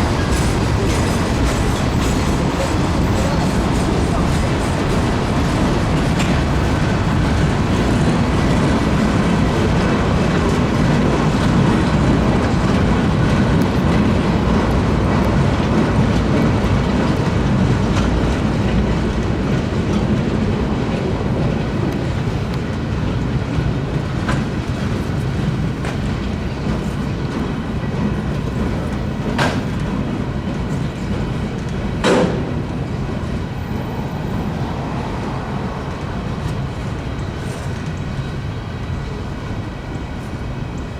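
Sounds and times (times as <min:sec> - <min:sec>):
clickety-clack over rail joints: 0:00.0 - 0:40.9
train wheels rumbling on rails: 0:00.0 - 0:40.9.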